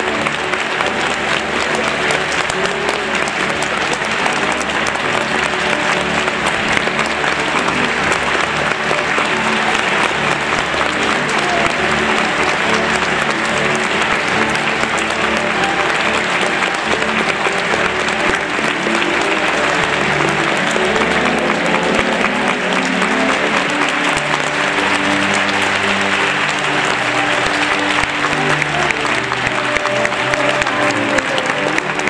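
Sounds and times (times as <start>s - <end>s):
audience applauding: 0.0s - 32.0s
music playing: 0.0s - 32.0s.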